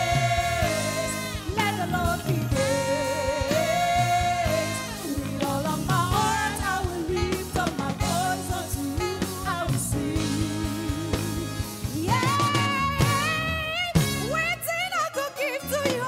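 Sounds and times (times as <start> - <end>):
singers singing gospel: 0.0 - 14.2
band playing: 0.0 - 16.0.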